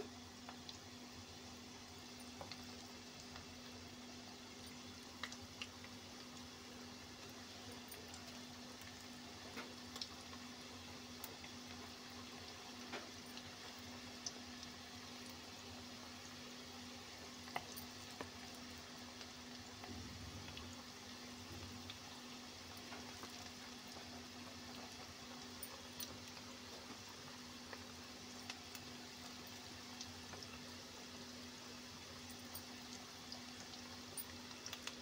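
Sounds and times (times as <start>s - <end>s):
deep-frying oil sizzling: 0.0s - 35.0s.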